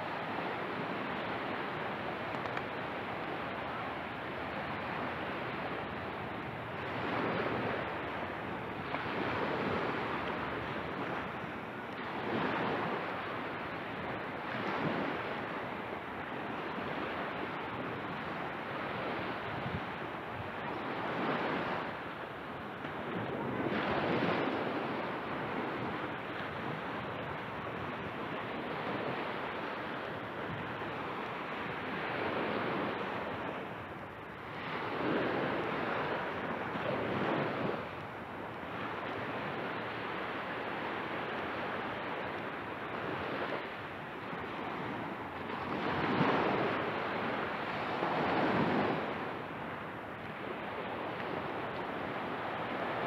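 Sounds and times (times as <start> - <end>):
small waves breaking on beach: 0.0 - 53.0.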